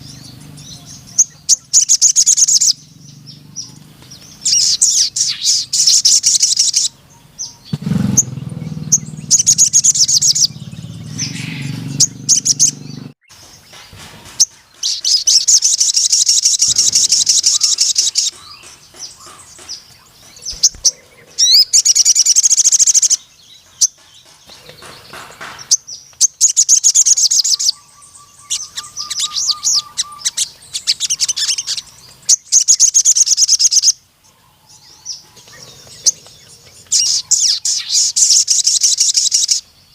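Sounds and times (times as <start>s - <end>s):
sunbird singing rattling trills: 0.0s - 39.9s.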